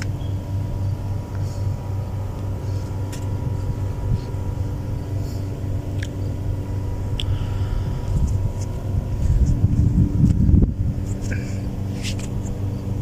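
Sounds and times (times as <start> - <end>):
faint steady tones: 0.0 - 13.0
low mechanical hum: 0.0 - 13.0.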